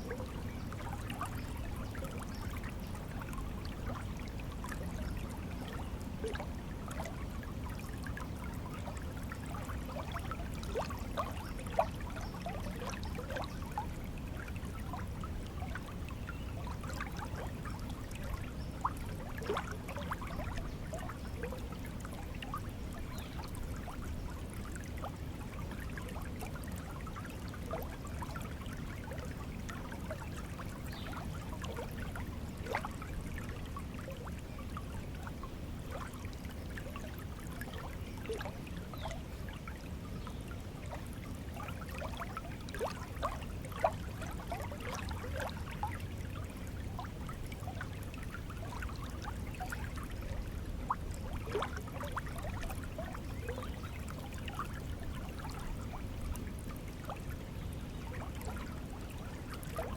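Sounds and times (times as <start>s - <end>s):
stream water bubbling: 0.0s - 59.9s.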